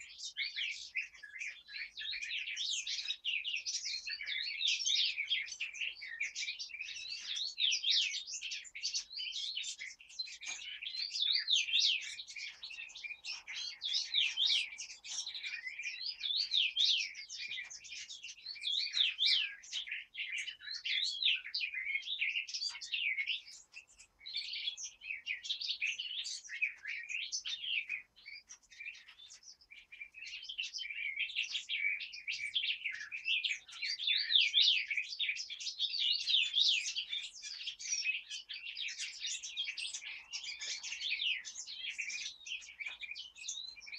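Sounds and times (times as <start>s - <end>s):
forest birds chirping: 0.0s - 43.9s.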